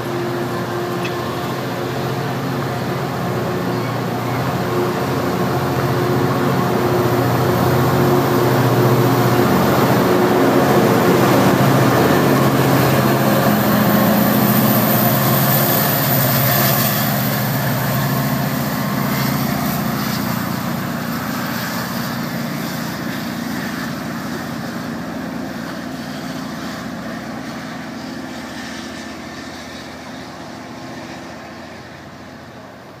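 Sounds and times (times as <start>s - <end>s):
diesel locomotive engine humming: 0.0s - 33.0s.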